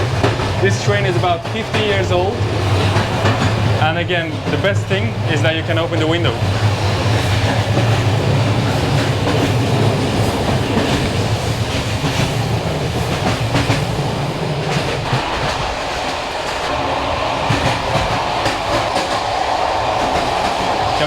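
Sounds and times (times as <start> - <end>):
train carriage rumbling: 0.0 - 21.0
wheels clacking over rail joints: 0.0 - 21.0.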